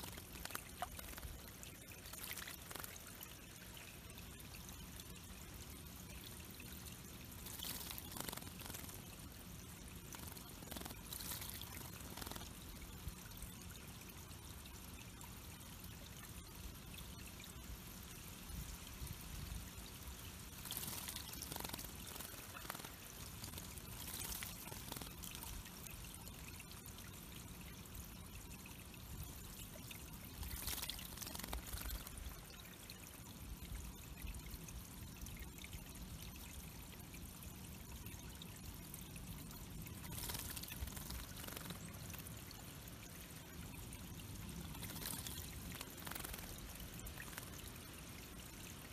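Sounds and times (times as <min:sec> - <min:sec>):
water trickling over rocks: 0:00.0 - 0:48.9.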